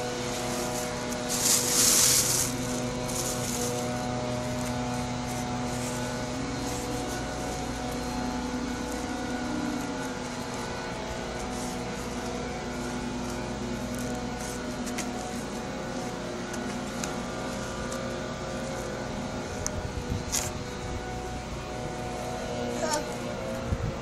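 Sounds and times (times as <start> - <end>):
motor drone with low hum: 0.0 - 24.0.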